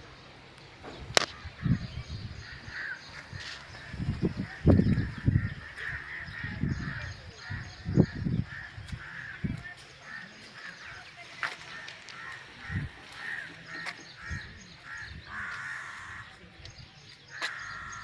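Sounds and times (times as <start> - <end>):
bird calls: 0.0 - 18.0.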